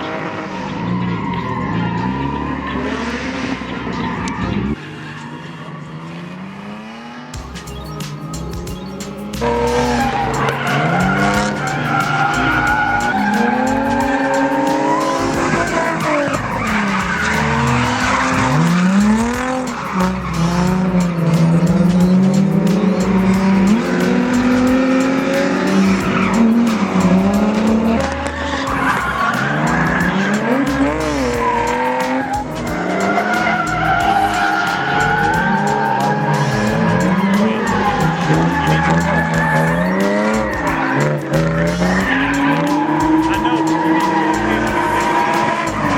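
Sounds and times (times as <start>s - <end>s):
car engines revving: 0.0s - 45.9s
tyre squeal: 7.4s - 45.9s.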